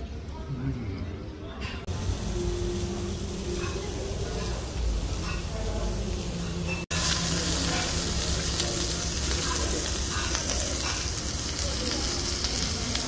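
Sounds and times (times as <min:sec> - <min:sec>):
faint restaurant voices: 0:00.0 - 0:13.0
beef sizzling on grill plate: 0:01.9 - 0:13.0.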